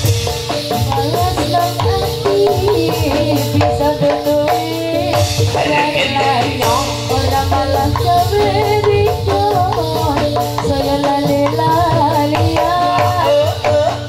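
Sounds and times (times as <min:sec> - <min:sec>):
drums beating steady rhythm: 0:00.0 - 0:14.0
melody of pitched instruments: 0:00.0 - 0:14.0.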